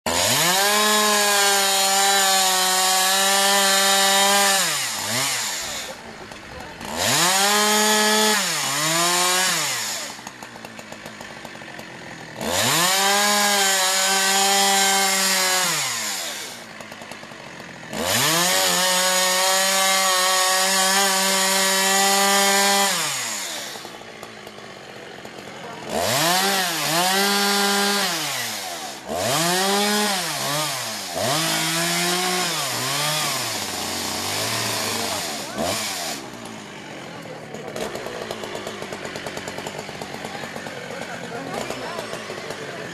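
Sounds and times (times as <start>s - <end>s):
chainsaw revving and cutting wood: 0.0s - 42.9s
chainsaw idling: 0.1s - 42.9s.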